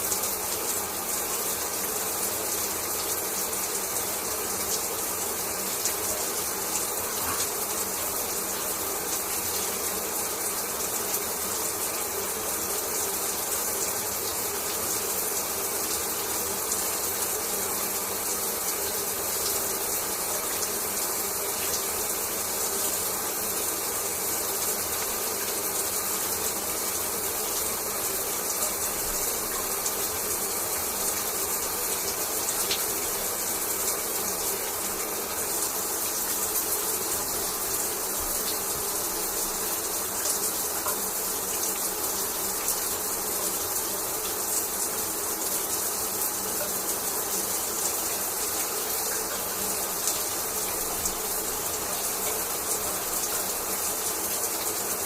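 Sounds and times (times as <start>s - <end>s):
shower water spraying: 0.0s - 55.0s.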